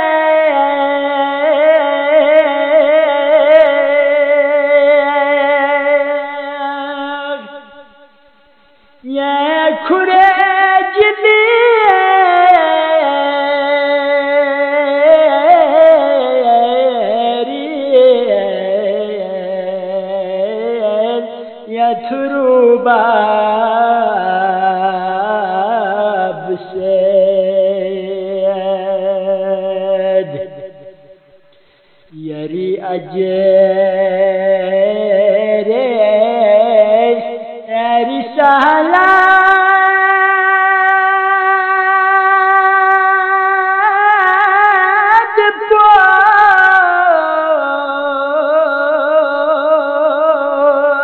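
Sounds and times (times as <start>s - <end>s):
person singing devotional song: 0.0s - 51.0s.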